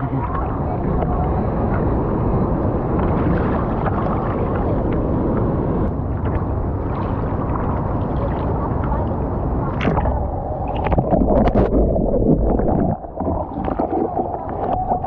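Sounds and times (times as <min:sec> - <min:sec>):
churning water rushing: 0:00.0 - 0:15.0
wind buffeting microphone: 0:00.0 - 0:15.0.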